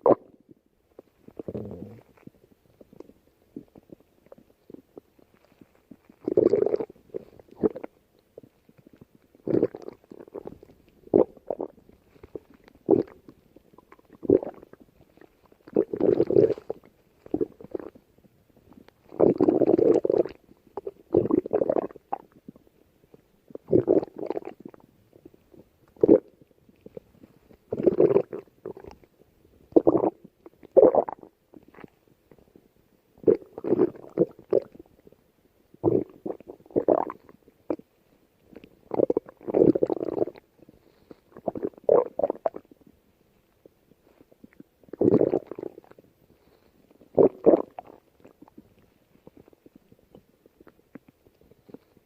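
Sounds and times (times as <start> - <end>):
stomach growling: 0.0 - 52.0.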